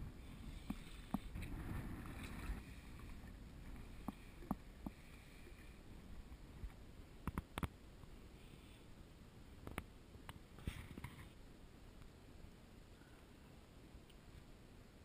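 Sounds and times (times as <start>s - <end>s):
low wind: 0.0s - 15.0s
water noise: 0.0s - 15.0s.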